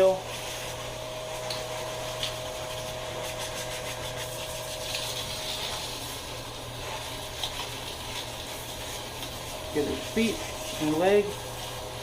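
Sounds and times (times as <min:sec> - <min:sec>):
shower water spraying on dog: 0:00.0 - 0:12.0.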